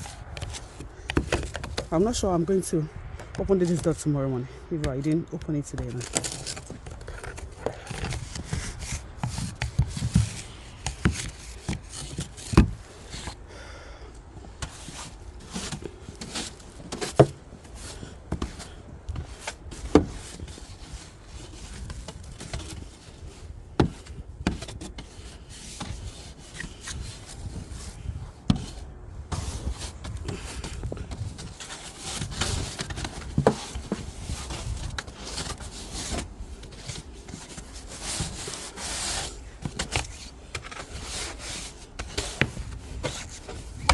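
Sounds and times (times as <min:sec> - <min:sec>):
scraping snow and ice off car: 0:00.0 - 0:02.9, 0:05.1 - 0:13.5, 0:14.5 - 0:43.9.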